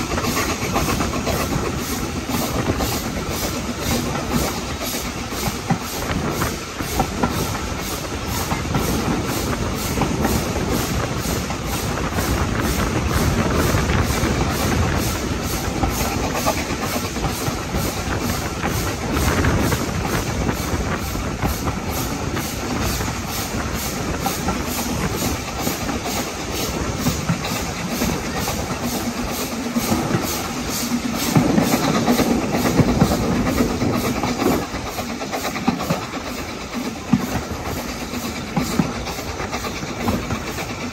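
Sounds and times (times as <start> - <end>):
coach wheels clattering on rails: 0.0 - 40.9
steam locomotive exhaust beats: 0.0 - 40.9.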